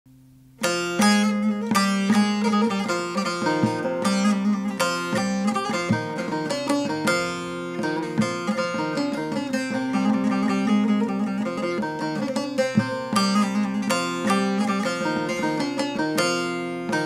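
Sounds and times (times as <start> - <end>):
plucked lute melody with drone: 0.1 - 17.0.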